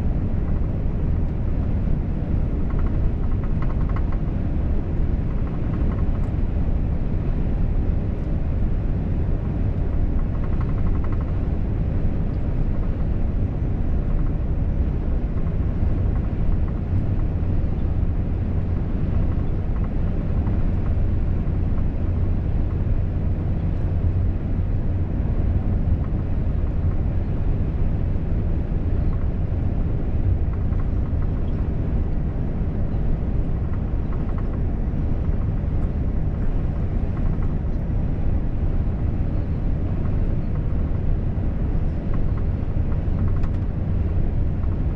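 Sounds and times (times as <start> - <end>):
truck engine and tyre drone: 0.0 - 44.9.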